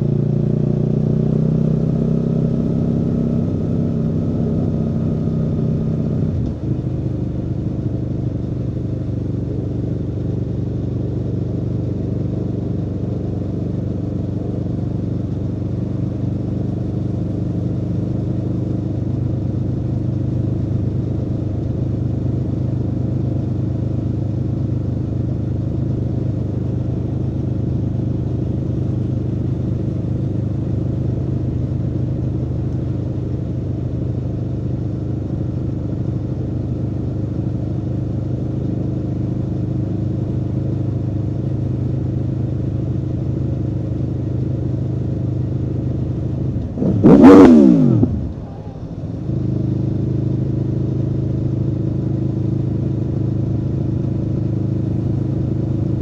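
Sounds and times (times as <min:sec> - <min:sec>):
motorcycle engine at steady revs: 0:00.0 - 0:56.0.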